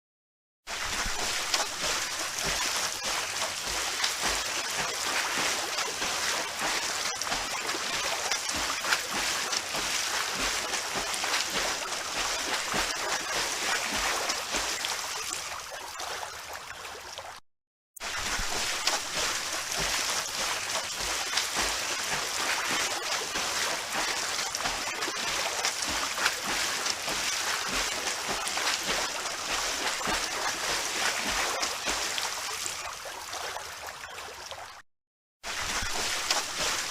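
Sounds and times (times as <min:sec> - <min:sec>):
swimmers splashing water: 0:00.7 - 0:16.6, 0:18.0 - 0:34.6, 0:35.4 - 0:36.9.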